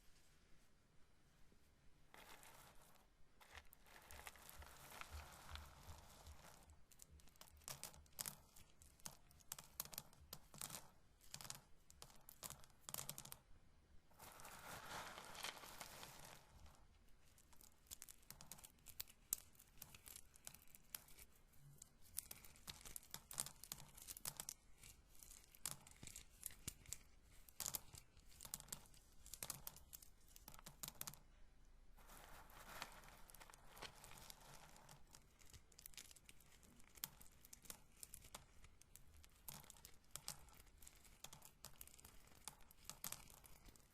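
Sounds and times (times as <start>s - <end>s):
corn kernels clicking and rattling: 2.1s - 13.4s, 14.2s - 31.2s, 32.0s - 43.9s
rustling of rubbing kernels: 2.1s - 13.4s, 14.1s - 31.2s, 31.9s - 43.9s.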